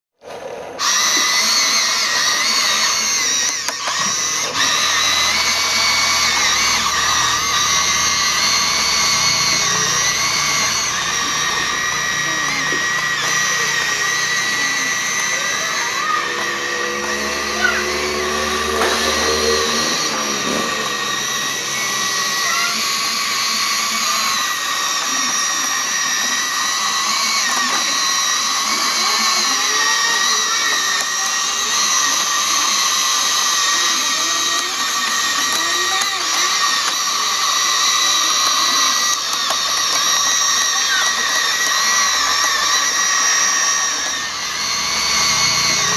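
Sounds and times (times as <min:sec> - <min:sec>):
electric motors whining: 0:00.2 - 0:45.9.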